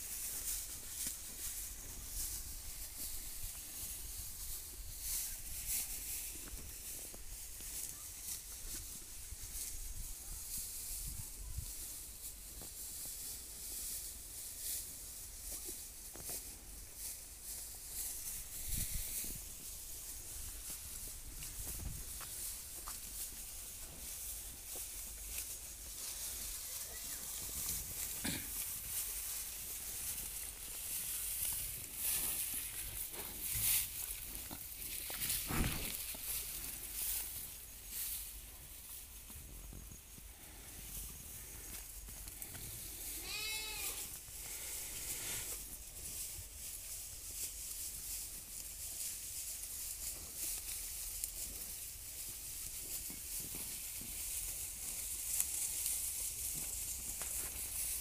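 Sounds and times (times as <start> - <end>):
dry straw rustling: 0.0 - 58.0
steady high hiss: 0.0 - 58.0.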